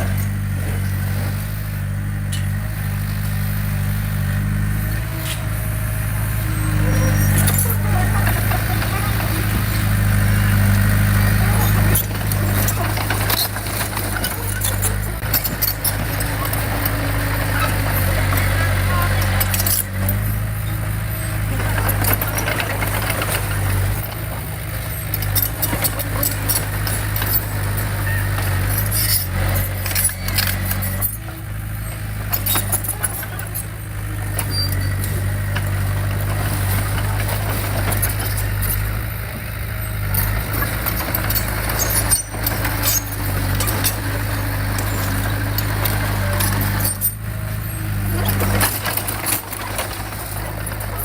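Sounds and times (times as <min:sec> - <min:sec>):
bulldozer diesel engine: 0:00.0 - 0:51.0
metallic clanks and rattles: 0:06.8 - 0:51.0.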